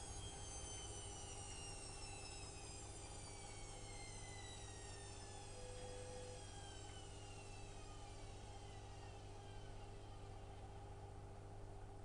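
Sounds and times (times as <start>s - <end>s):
washing machine motor whining: 0.0s - 10.8s.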